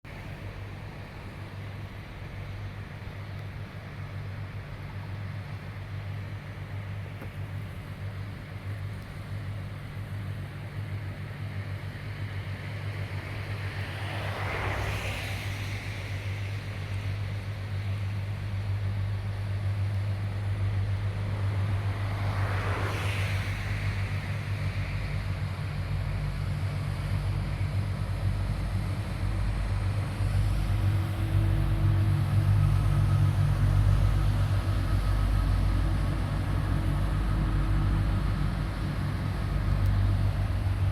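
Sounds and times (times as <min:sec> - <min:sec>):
ferry engine drone: 0:00.0 - 0:40.9.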